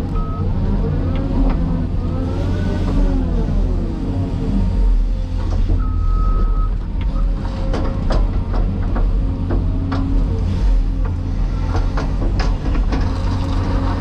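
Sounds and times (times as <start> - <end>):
excavator diesel engine: 0.0 - 14.0.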